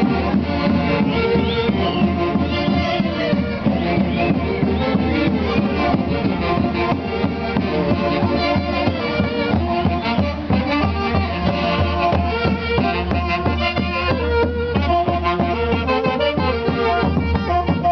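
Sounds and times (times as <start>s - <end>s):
orchestra music: 0.0s - 17.9s
steady beat: 0.0s - 17.9s
violin melody: 0.0s - 17.9s.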